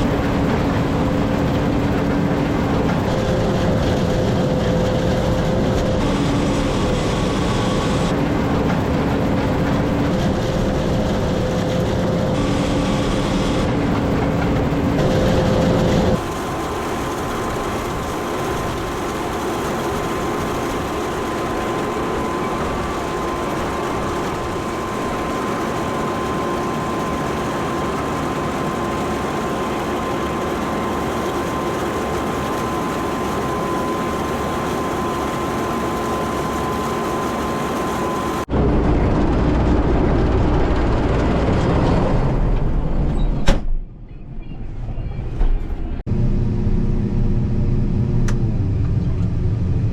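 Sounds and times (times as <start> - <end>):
thin steady whine: 0.0 - 41.2
combine harvester running: 0.0 - 43.6, 45.8 - 49.9.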